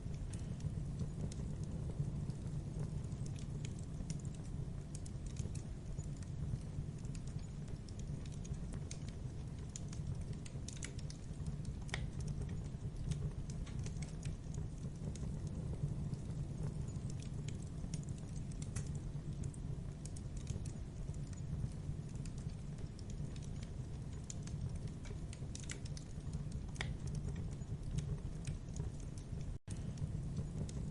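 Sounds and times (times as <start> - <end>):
campfire flames rumbling: 0.0 - 30.9
wood crackling and popping: 0.0 - 30.9.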